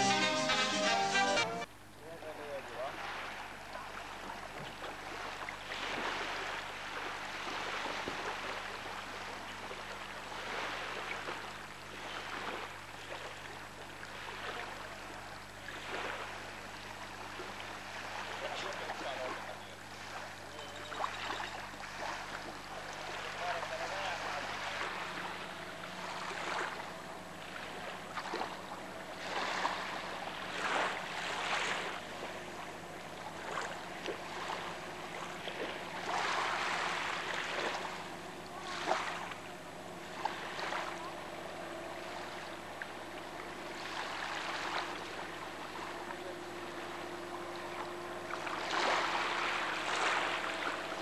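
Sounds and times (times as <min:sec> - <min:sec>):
faint low hum: 0:01.6 - 0:51.0
small waves washing on shore: 0:02.0 - 0:51.0.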